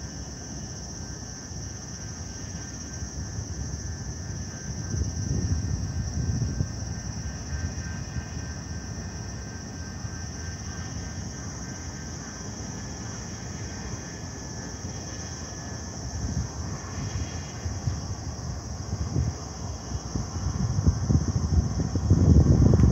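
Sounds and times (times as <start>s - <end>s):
high-pitched hiss: 0.0s - 22.9s
wind buffeting microphone: 3.1s - 22.9s.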